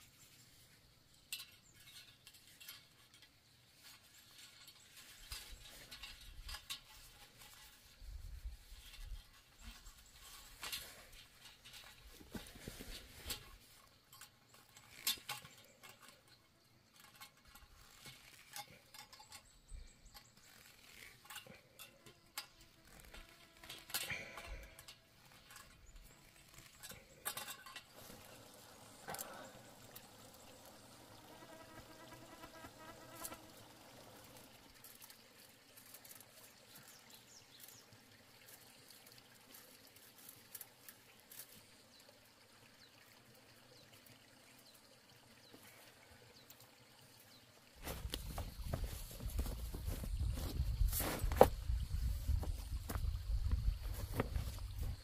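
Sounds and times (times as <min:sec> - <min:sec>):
wire and mesh rattling: 0:00.5 - 0:41.6, 0:47.8 - 0:55.0.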